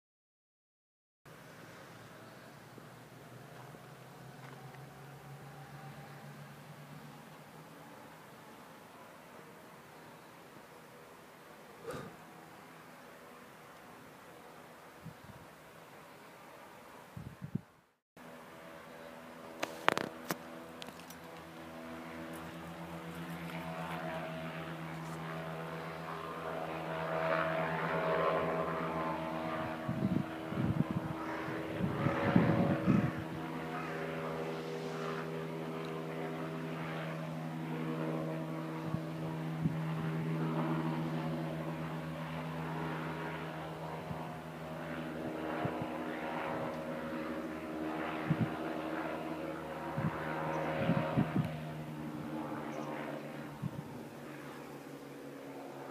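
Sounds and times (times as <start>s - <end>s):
propeller engines droning: 1.3s - 55.9s.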